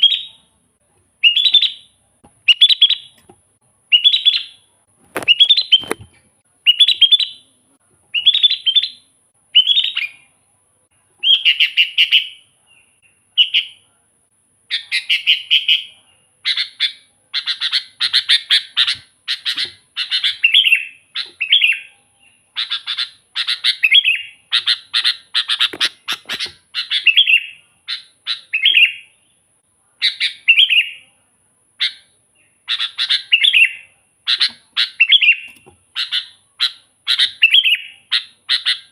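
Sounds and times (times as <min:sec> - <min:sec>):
bulbul singing whistled phrases: 0:00.0 - 0:00.5, 0:01.2 - 0:03.2, 0:03.9 - 0:06.0, 0:06.6 - 0:07.5, 0:08.1 - 0:10.3, 0:11.2 - 0:13.9, 0:14.7 - 0:29.2, 0:30.0 - 0:31.1, 0:31.8 - 0:38.9.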